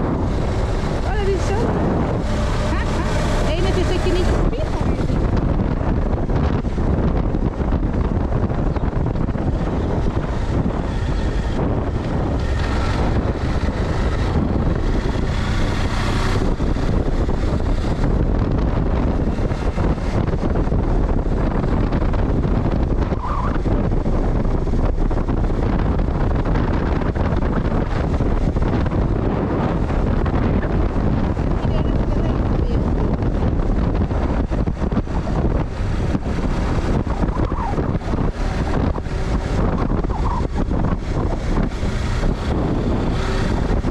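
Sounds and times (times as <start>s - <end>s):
moving vehicle rumble: 0.0s - 43.9s
wind buffeting microphone: 0.0s - 43.9s.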